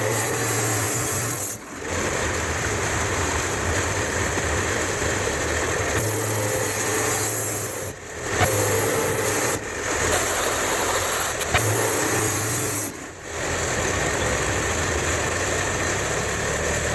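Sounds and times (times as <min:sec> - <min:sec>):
sawmill sawing wood: 0:00.0 - 0:16.9.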